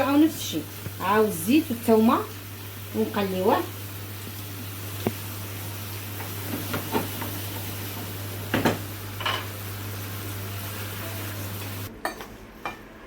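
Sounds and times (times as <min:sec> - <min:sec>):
vegetables sizzling in pan: 0:00.0 - 0:11.9.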